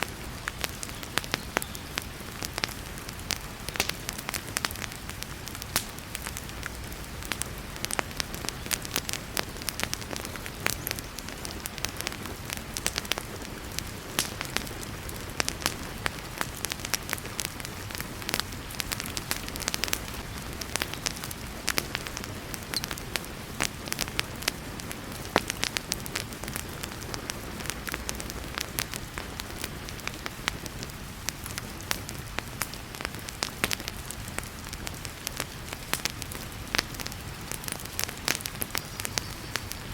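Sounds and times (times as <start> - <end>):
heavy rain hiss: 0.0 - 39.9
wood fire crackling and popping: 0.0 - 39.9.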